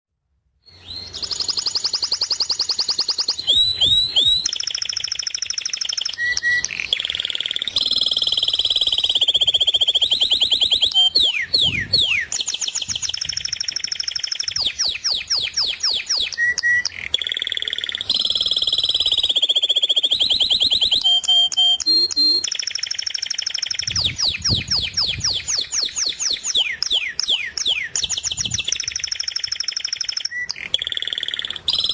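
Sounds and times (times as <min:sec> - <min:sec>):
songbird trilling: 0:00.7 - 0:31.9.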